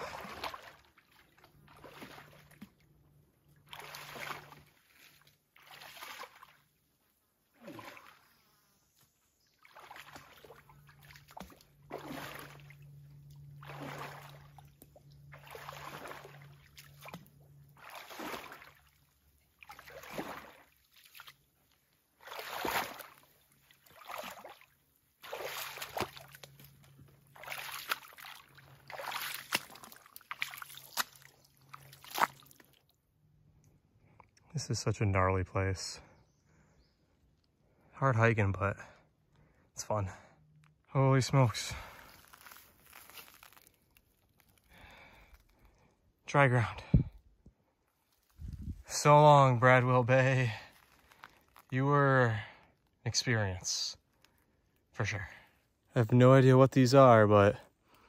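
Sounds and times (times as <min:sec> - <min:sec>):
wading through water: 0:00.0 - 0:34.5, 0:35.9 - 0:58.0.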